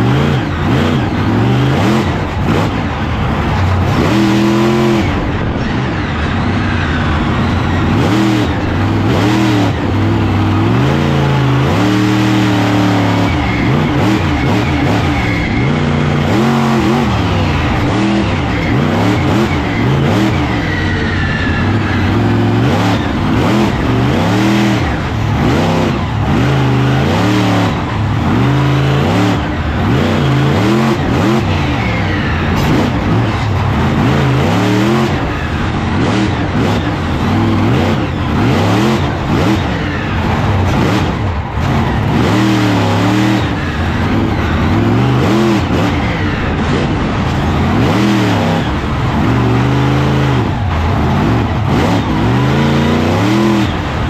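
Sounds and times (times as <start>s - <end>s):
monster truck engine revving: 0.0s - 54.0s.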